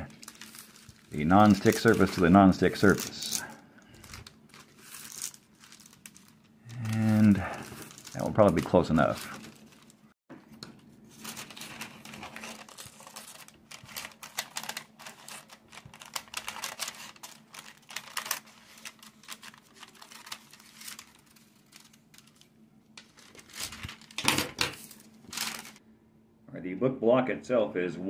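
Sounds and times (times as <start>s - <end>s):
paper crinkling and rustling: 0.0s - 25.8s.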